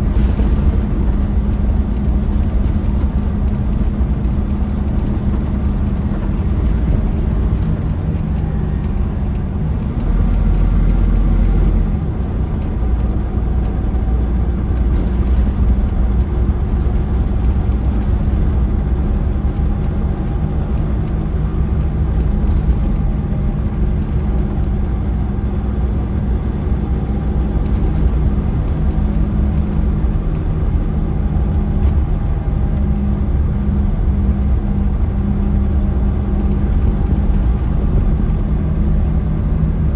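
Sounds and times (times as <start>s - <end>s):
bus diesel engine running: 0.0s - 39.9s
road and drivetrain noise: 0.0s - 39.9s.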